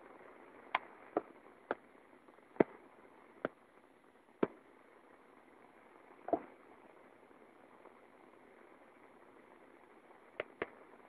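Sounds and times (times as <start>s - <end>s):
steady hiss of rain: 0.0s - 11.0s.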